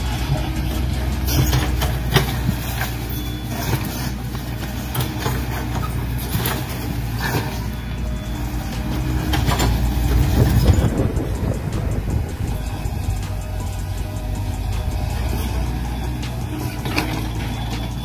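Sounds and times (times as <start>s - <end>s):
low engine-like hum: 0.0s - 18.0s.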